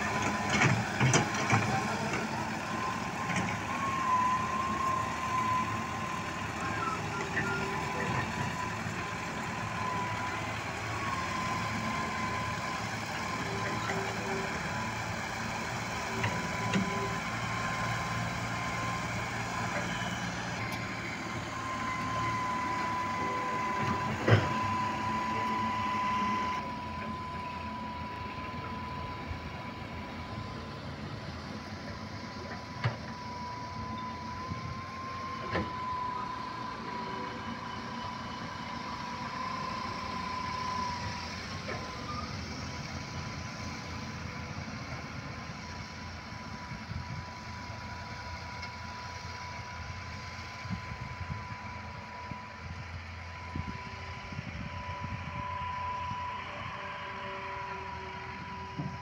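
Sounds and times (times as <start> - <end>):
tractor engines running: 0.0 - 59.0.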